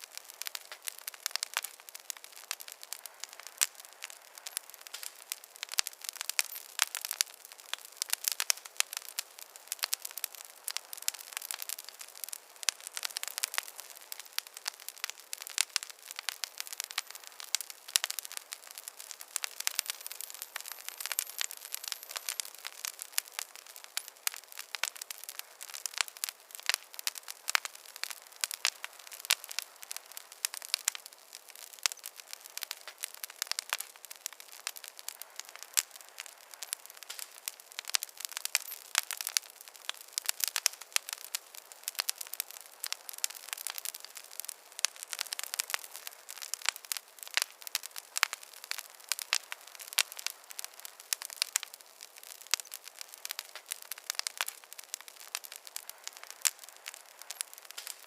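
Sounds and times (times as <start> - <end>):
fire crackling and popping: 0.0 - 58.0
soft fire hiss: 0.0 - 58.0.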